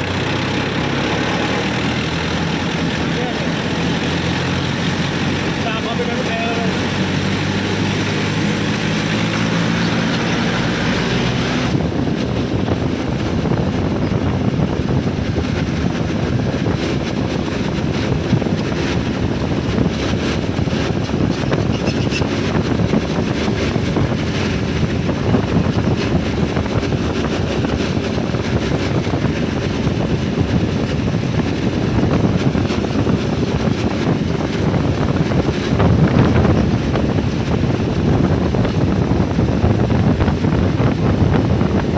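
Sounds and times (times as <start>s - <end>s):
diesel engine idling: 0.0s - 41.9s
low rumble: 0.0s - 41.9s
wind buffeting microphone: 0.0s - 41.9s.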